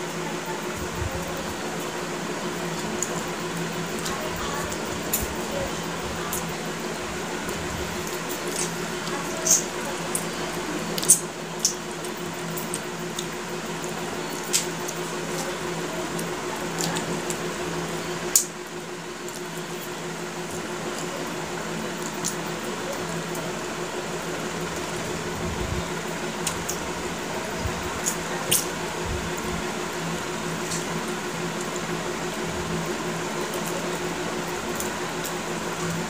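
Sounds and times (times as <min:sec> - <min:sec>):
people eating with hands: 0:00.0 - 0:36.0
steady low hum: 0:00.0 - 0:36.0.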